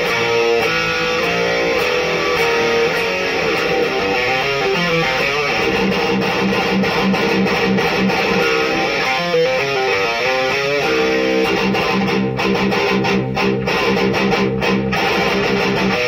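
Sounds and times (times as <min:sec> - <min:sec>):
distorted electric guitar metal riffs: 0:00.0 - 0:16.0
palm-muted guitar chugs: 0:00.0 - 0:16.0.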